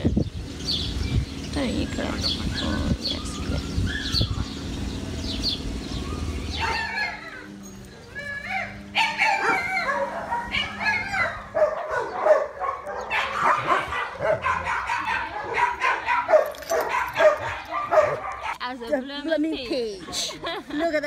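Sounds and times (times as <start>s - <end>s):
dogs barking and yipping: 0.6s - 19.1s.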